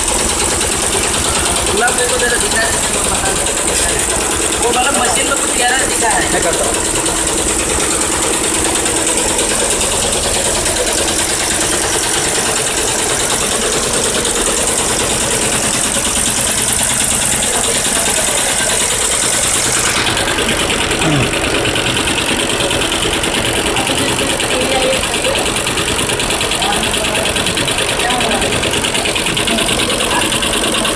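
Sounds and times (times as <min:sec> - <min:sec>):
embroidery machine clattering: 0:00.0 - 0:30.9.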